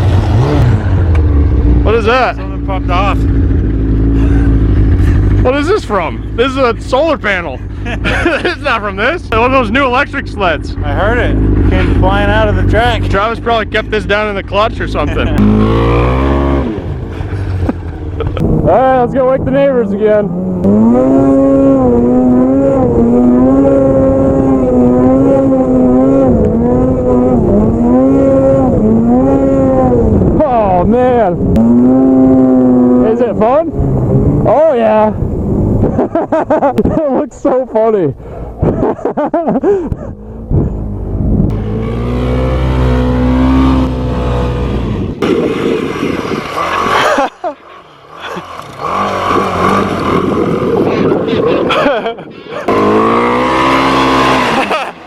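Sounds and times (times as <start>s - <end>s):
snowmobile engine revving: 0.0s - 35.1s, 38.4s - 55.0s.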